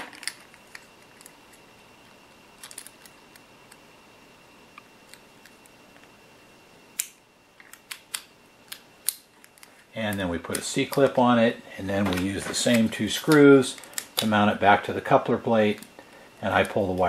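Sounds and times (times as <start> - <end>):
faint steady high tone: 0.2 - 17.0.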